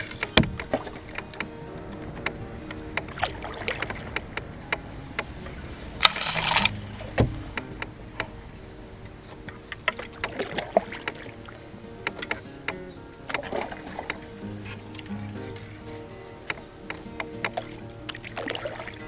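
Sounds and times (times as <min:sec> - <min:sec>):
paddle knock: 0:00.0 - 0:19.0
paddle swishing through water: 0:00.0 - 0:19.0
water drips: 0:00.0 - 0:19.0.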